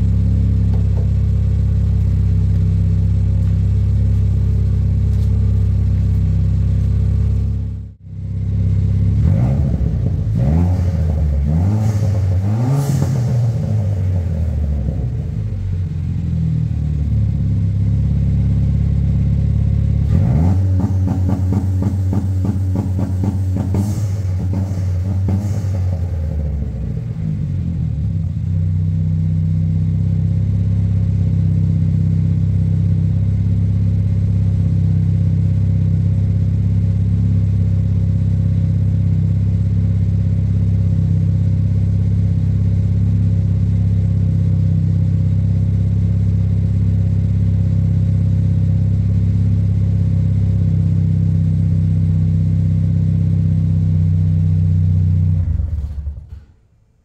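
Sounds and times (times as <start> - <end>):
car engine revving and idling: 0.0 - 56.9.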